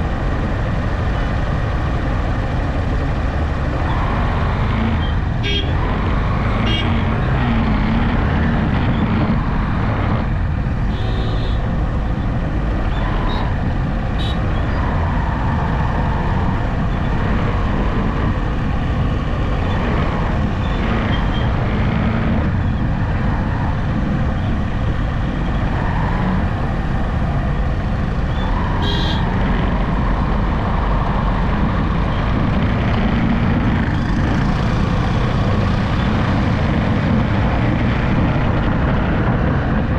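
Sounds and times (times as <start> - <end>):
vehicle driving at speed: 0.0 - 39.9.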